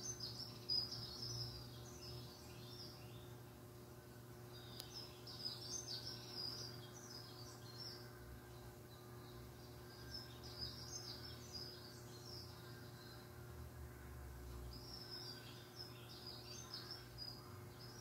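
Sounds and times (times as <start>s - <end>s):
faint steady hum: 0.0s - 18.0s
songbirds chirping through speakers: 0.0s - 18.0s.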